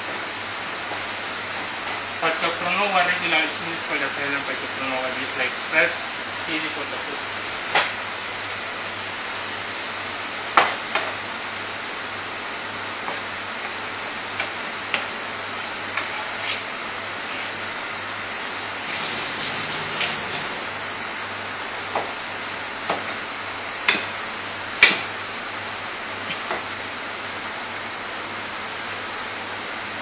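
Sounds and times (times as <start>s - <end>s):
kitchen ventilation rushing: 0.0s - 30.0s.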